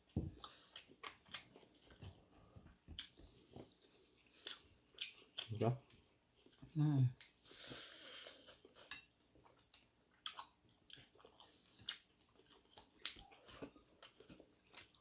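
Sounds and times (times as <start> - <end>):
faint chewing clicks and smacks: 0.0 - 7.6, 8.4 - 15.0.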